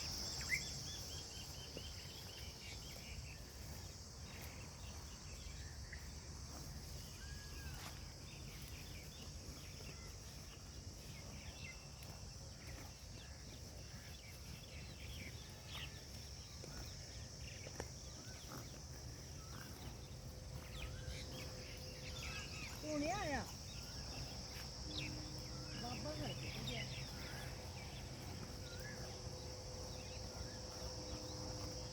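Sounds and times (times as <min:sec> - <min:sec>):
high-pitched insect chorus: 0:00.0 - 0:31.9.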